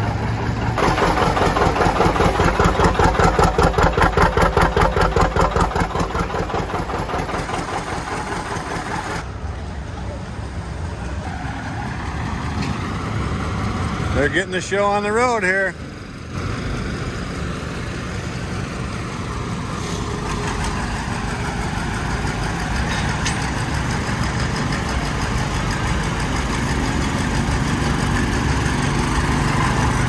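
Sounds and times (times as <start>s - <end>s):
tractor engines running: 0.0s - 30.0s.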